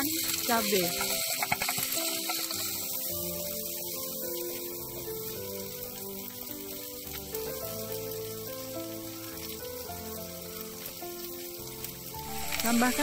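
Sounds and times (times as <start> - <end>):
simple background music melody: 0.0 - 13.0
vegetables sizzling in a wok: 0.0 - 13.0.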